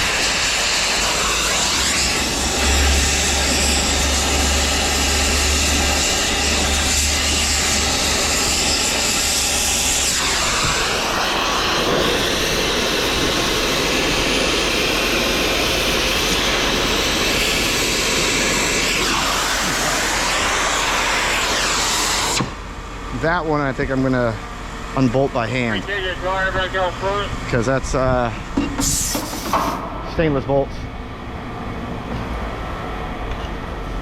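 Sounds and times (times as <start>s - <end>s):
loud machinery running: 0.0s - 34.0s.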